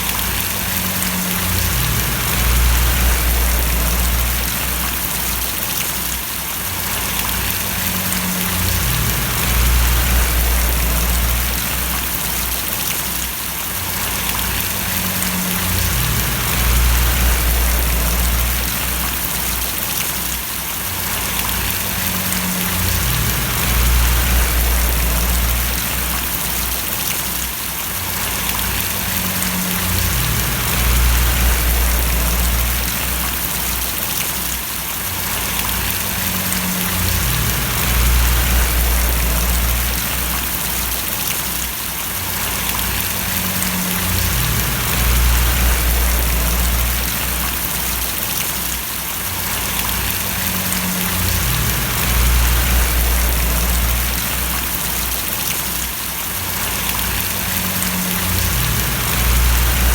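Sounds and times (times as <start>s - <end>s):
low rumble: 0.0s - 5.6s, 7.2s - 12.8s, 14.0s - 19.8s, 21.2s - 27.1s, 28.2s - 34.0s, 35.5s - 41.3s, 42.5s - 48.2s, 49.7s - 55.4s, 56.8s - 59.9s
rain splashing and pattering: 0.0s - 59.9s.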